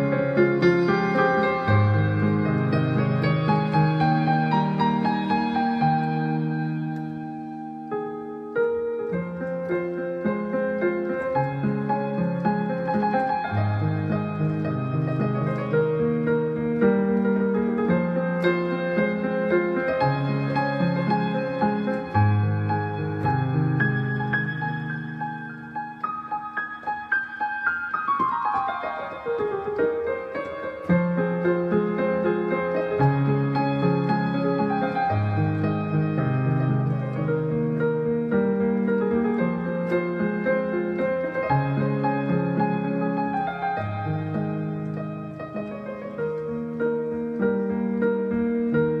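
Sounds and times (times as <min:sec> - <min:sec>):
slow piano melody: 0:00.0 - 0:49.0.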